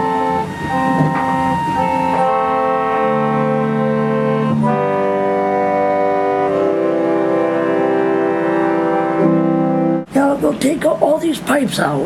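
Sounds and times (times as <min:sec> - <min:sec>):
pipe organ chords: 0:00.0 - 0:10.1.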